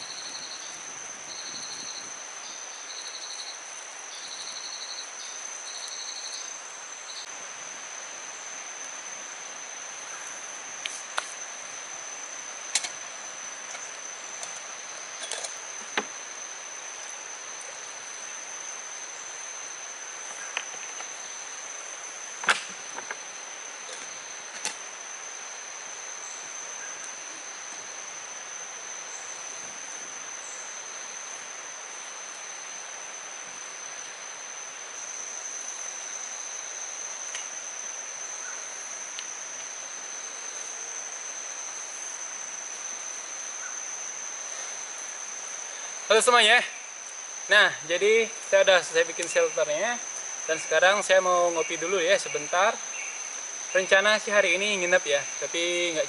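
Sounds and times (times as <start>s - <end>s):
insects droning high whine: 0.0s - 56.0s
pulsed insect chirping: 0.0s - 56.0s.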